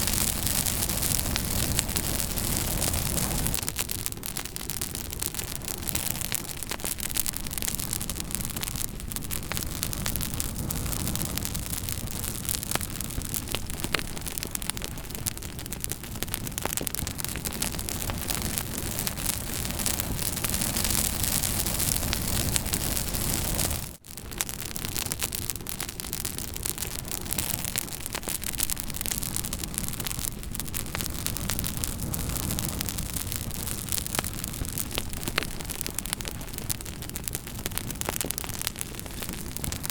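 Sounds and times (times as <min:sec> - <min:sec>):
burning wood crackling and popping: 0:00.0 - 0:39.9
campfire hissing and rumbling: 0:00.0 - 0:39.9.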